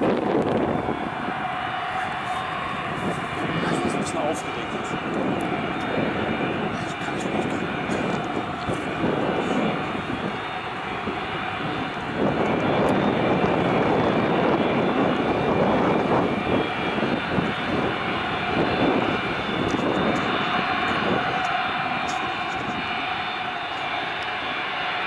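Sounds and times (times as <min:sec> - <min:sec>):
jet engines rumbling with whine: 0:00.0 - 0:25.0.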